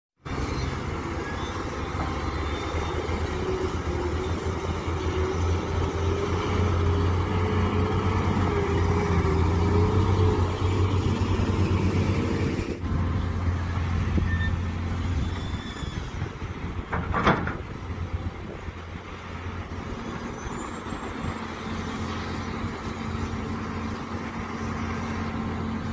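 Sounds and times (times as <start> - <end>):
excavator engine humming: 0.2 - 25.9.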